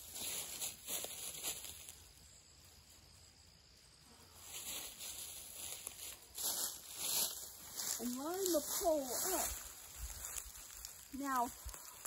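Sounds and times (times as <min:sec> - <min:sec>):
footsteps through dry leaves: 0:00.0 - 0:02.2, 0:04.3 - 0:12.0.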